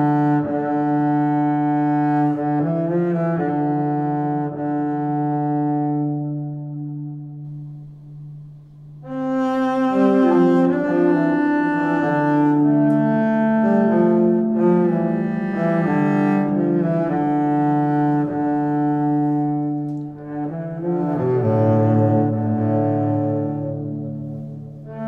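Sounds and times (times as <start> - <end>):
slow low instrumental music: 0.0 - 25.0.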